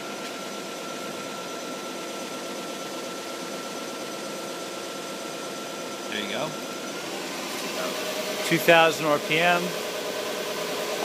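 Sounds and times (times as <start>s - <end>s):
lathe spindle humming with whine: 0.0s - 11.0s.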